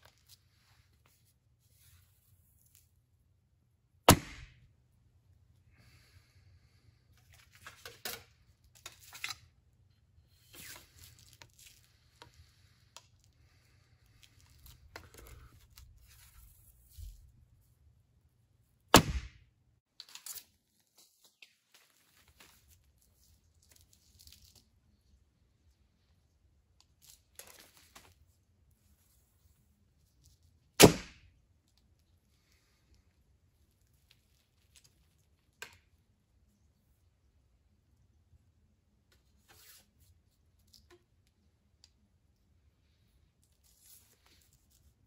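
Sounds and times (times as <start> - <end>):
rustling and handling noises: 0.0 - 3.7, 4.8 - 18.9, 19.8 - 38.1, 38.8 - 45.0.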